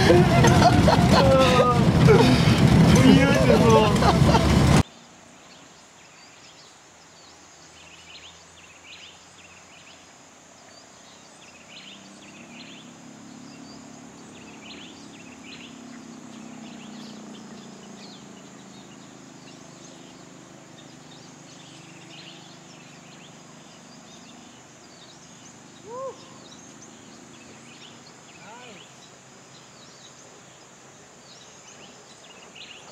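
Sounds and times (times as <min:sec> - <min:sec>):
birds chirping: 0:00.0 - 0:32.9
high insect drone: 0:05.0 - 0:32.9.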